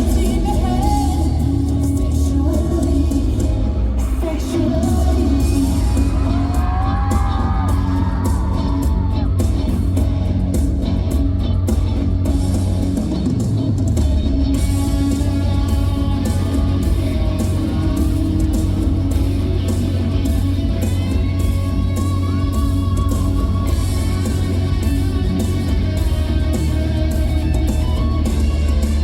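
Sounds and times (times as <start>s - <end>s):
electric guitar: 0.0s - 29.0s
live pop-rock band: 0.0s - 29.0s.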